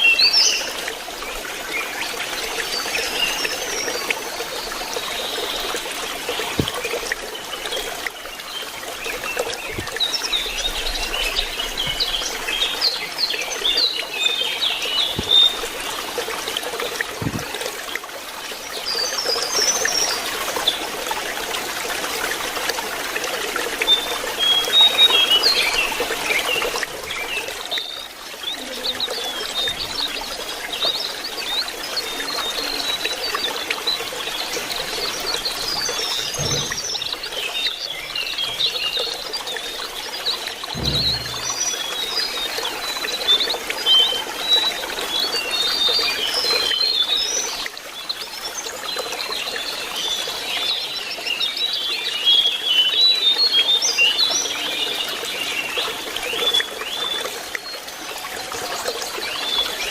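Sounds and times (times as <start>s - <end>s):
bird twittering song: 0.0s - 16.4s, 23.8s - 57.8s
water trickling: 0.0s - 59.9s.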